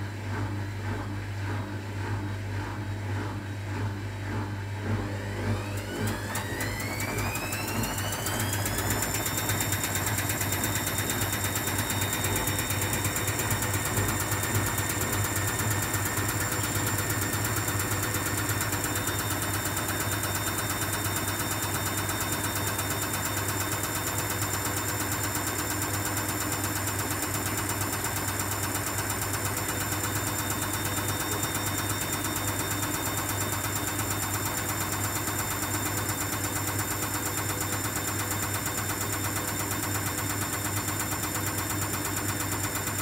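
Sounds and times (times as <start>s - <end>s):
washing machine spinning: 0.0s - 43.0s.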